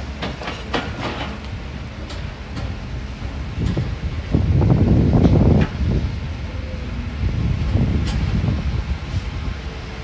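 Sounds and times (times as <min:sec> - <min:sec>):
construction machinery rumbling: 0:00.0 - 0:10.0.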